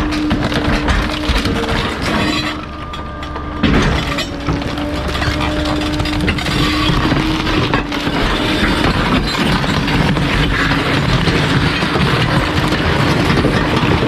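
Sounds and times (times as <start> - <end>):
compactor crushing load: 0.0 - 14.0.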